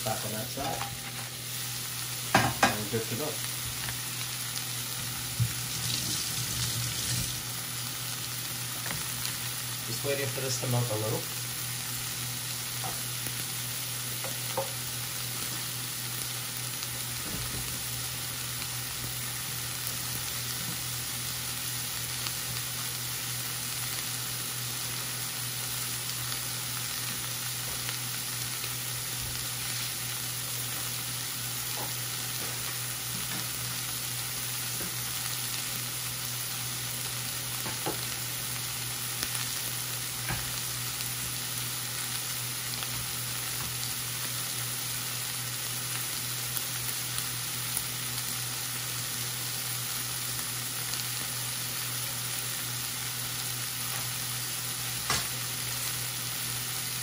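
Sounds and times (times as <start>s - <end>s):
food sizzling in a hot pan: 0.0s - 57.0s.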